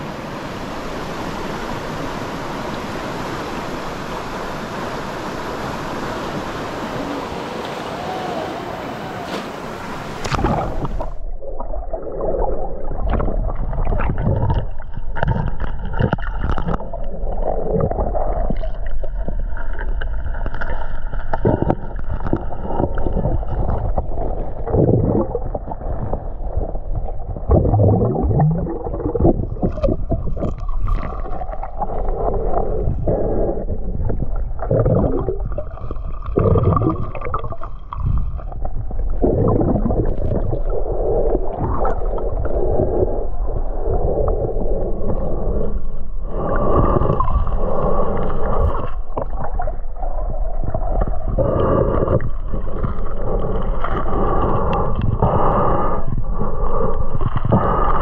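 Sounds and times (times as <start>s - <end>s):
water gurgling underwater: 6.8s - 58.0s.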